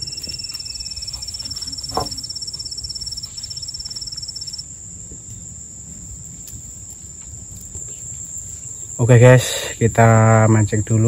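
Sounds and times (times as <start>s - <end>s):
continuous insect drone: 0.0s - 11.0s
insects pulsed chirping: 0.0s - 11.0s.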